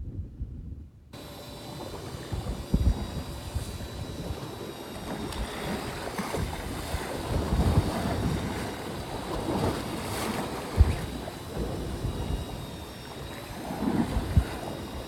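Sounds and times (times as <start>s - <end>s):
wind buffeting microphone: 0.0s - 15.0s
water washing around hull: 1.2s - 15.0s.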